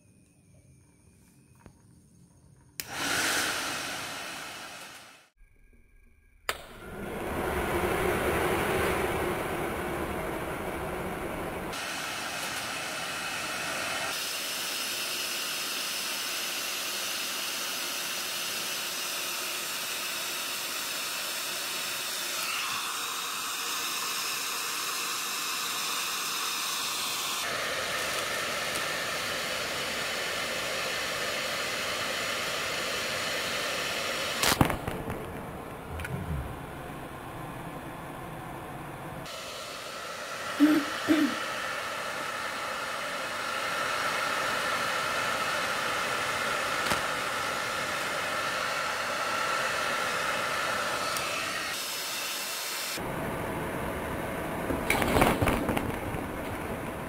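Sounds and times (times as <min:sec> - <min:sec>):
hair dryer blowing: 0:02.8 - 0:05.4, 0:06.5 - 0:57.0.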